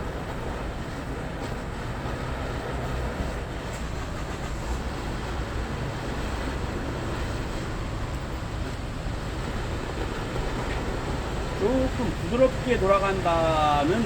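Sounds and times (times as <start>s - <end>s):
road vehicle rumble: 0.0s - 14.0s.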